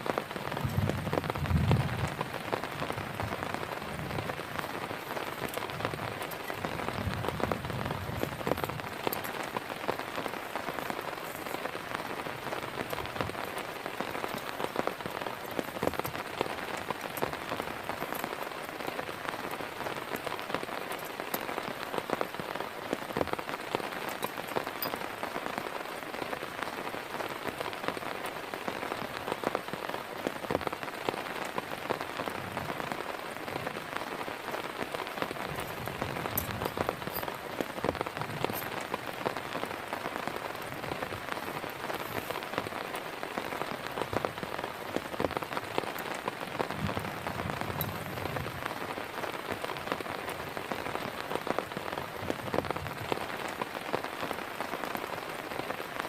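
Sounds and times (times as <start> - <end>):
heavy rain falling: 0.0 - 56.0
raindrops ticking close by: 0.0 - 56.0.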